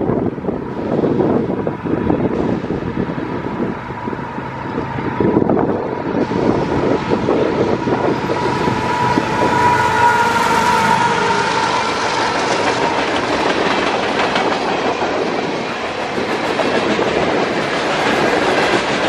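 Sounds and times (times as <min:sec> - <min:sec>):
freight train rumble: 0:00.0 - 0:19.0
wind buffeting microphone: 0:00.0 - 0:19.0.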